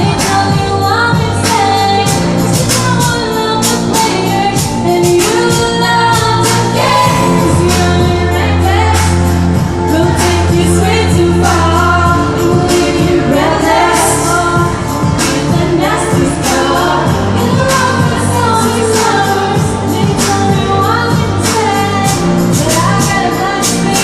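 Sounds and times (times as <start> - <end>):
instrumental backing with beat: 0.0 - 24.0
person singing: 0.0 - 24.0
sustained bass notes: 0.0 - 24.0.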